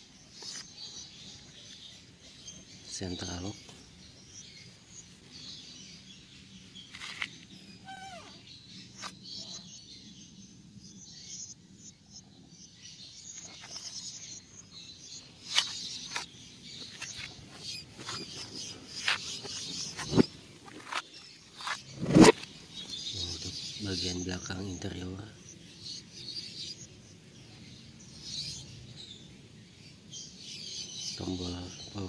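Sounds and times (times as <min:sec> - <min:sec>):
faint birds chirping: 0:00.0 - 0:32.0.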